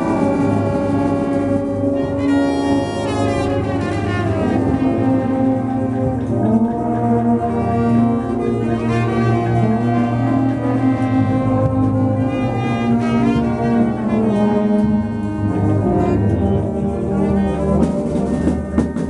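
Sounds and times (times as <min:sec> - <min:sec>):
brass band playing slow chords: 0:00.0 - 0:19.0.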